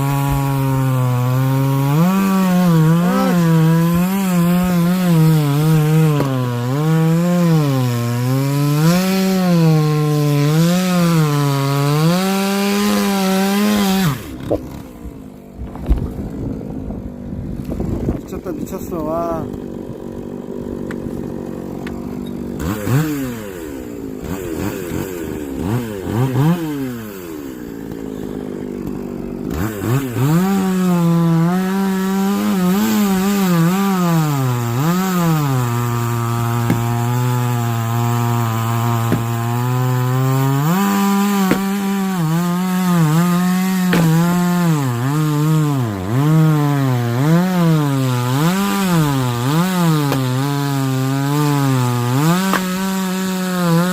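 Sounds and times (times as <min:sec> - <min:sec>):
chainsaw cutting through log: 0:00.0 - 0:53.9
chainsaw revving: 0:00.0 - 0:53.9.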